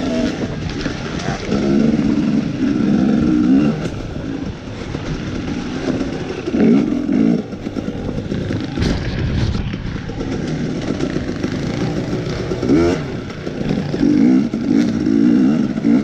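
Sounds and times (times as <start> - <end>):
bike rattling over ground: 0.0 - 16.0
dirt bike engine revving: 0.0 - 16.0.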